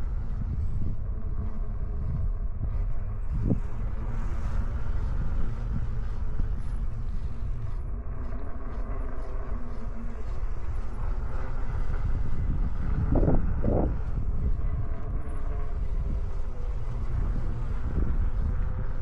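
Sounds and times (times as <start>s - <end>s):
e-bike riding on trail: 0.0s - 19.0s
faint steady hum: 0.0s - 19.0s
wind rumble on microphone: 0.0s - 19.0s.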